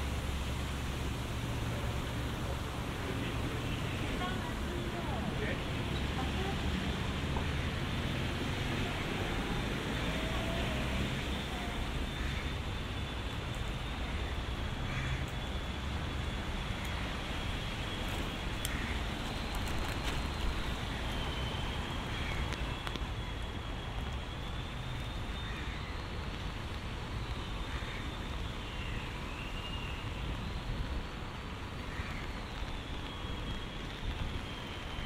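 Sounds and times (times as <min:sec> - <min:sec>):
low traffic rumble: 0:00.0 - 0:35.0.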